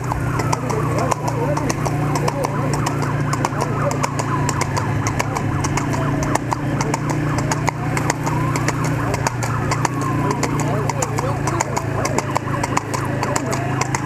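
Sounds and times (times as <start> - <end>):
horse hooves on pavement: 0.0 - 14.0
motorcycle engine humming: 0.0 - 14.0.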